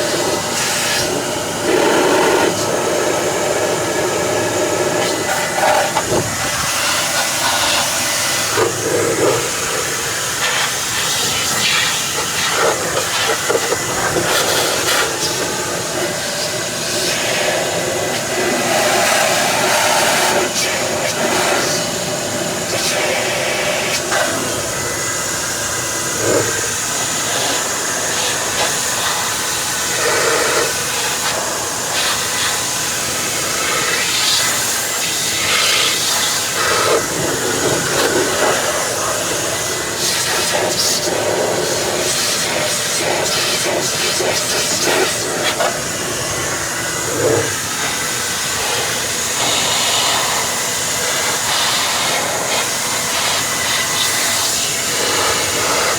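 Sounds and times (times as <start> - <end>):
rush of air from cleaning tool: 0.0 - 55.9.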